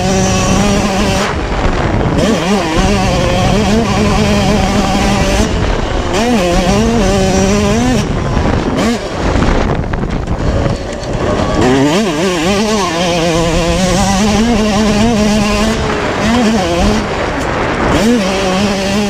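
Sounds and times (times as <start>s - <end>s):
motocross engine revving: 0.0s - 19.0s.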